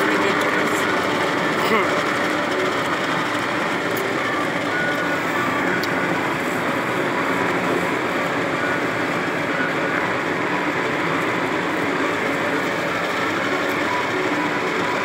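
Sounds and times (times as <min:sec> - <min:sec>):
low engine hum: 0:00.0 - 0:15.0
tyres rushing on dirt road: 0:00.0 - 0:15.0.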